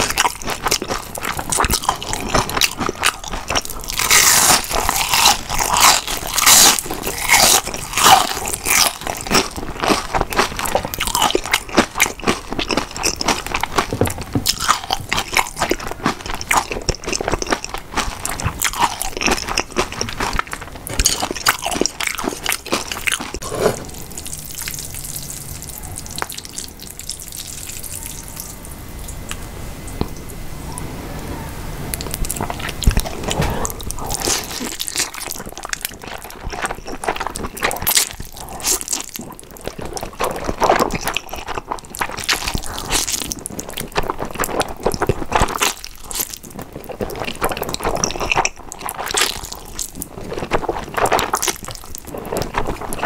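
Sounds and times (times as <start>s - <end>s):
crunching and chewing fried food: 0.0s - 30.2s, 31.9s - 53.0s.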